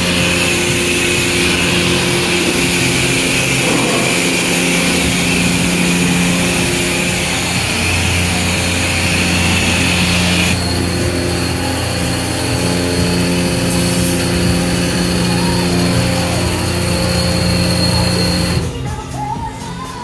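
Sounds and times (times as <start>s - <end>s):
water spray hissing: 0.0s - 18.8s
pump motor hum: 0.0s - 19.1s.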